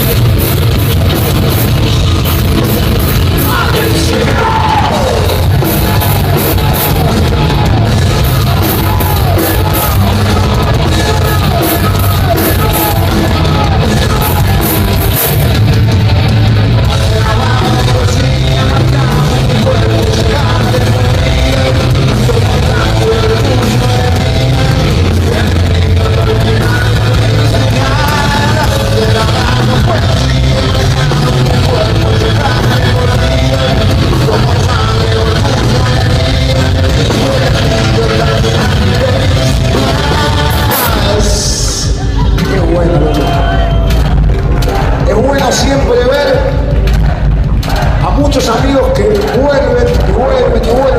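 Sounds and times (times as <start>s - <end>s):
heavy metal band playing: 0.0s - 50.9s
shouted sung vocals: 3.4s - 15.4s, 16.8s - 50.9s.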